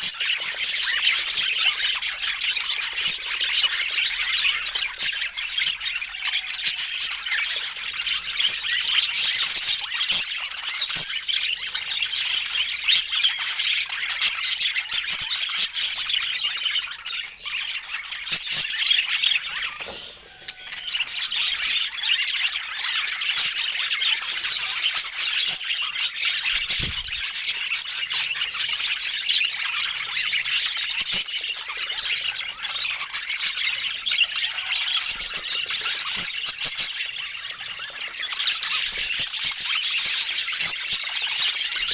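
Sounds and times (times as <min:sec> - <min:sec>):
budgerigars chattering and squawking: 0:00.0 - 0:41.9.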